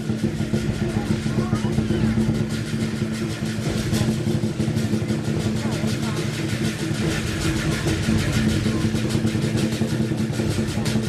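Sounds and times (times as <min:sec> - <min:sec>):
big drum beat: 0:00.0 - 0:11.0
cymbals clashing: 0:00.0 - 0:11.0.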